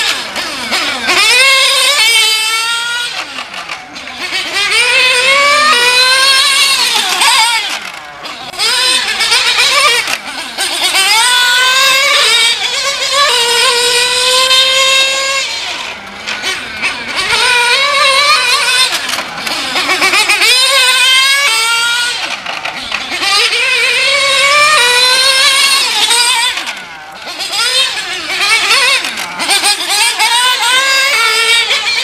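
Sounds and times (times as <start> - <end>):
rc car nitro engine revving: 0.0 - 32.0.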